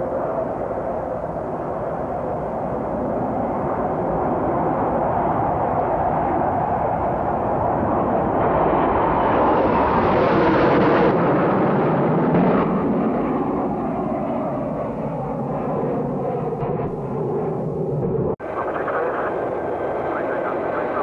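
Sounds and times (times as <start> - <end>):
jet aircraft flying overhead: 0.0 - 21.0.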